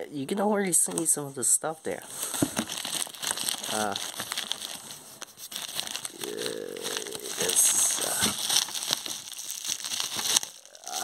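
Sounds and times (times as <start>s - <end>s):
bubble wrap crinkling: 0.7s - 11.0s.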